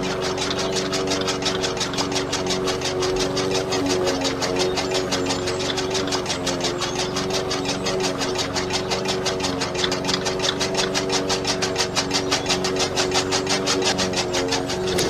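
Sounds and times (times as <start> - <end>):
fast regular ticking: 0.0 - 15.0
small electric motor humming: 0.0 - 15.0.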